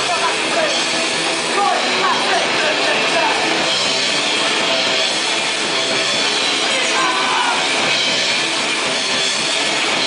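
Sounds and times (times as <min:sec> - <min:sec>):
live punk rock band: 0:00.0 - 0:10.0.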